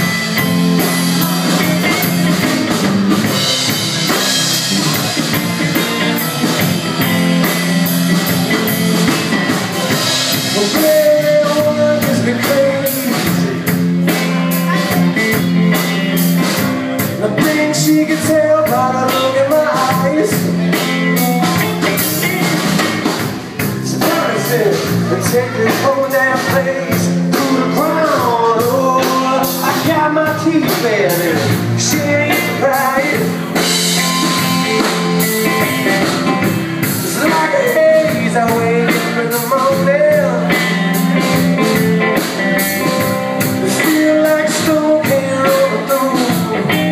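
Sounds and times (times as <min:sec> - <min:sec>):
bending lead melody: 0:00.0 - 0:46.9
blues-rock band playing: 0:00.0 - 0:46.9.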